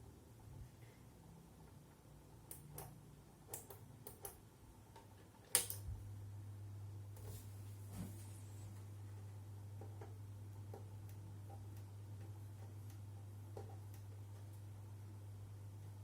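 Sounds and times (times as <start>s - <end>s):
power supply low hum: 0.0s - 16.0s.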